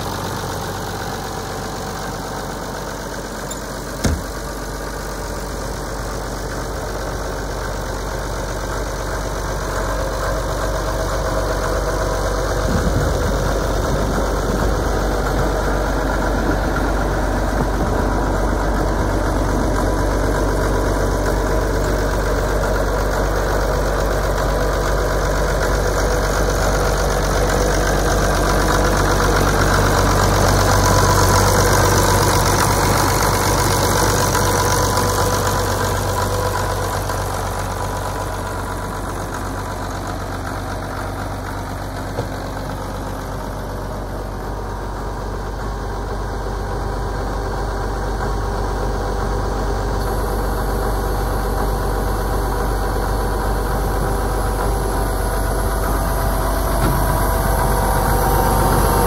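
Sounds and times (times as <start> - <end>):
tractor diesel engine idling: 0.0 - 59.0.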